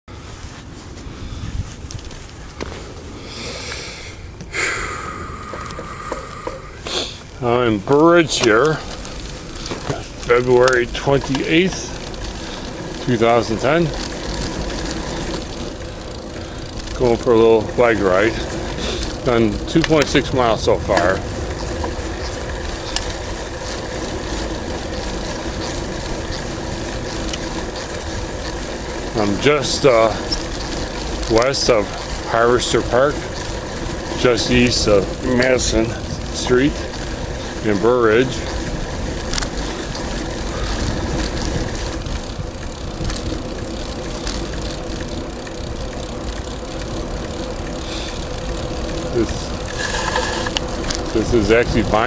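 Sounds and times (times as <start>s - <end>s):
rolling road noise: 0.0s - 52.0s
wind rumble on microphone: 0.1s - 52.0s
bicycle clicks and rattles: 1.7s - 3.8s, 4.4s - 52.0s.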